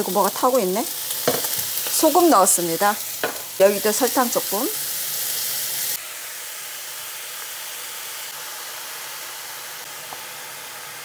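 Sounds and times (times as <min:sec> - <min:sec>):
beef sizzling in a wok: 0:00.0 - 0:11.0
bright loud sizzle: 0:00.0 - 0:11.0.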